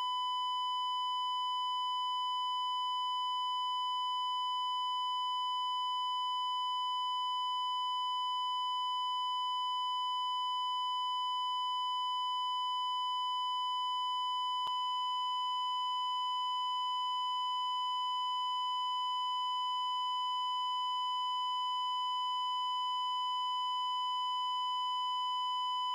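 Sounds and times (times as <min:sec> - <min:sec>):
continuous flatline beep tone: 0:00.0 - 0:25.9.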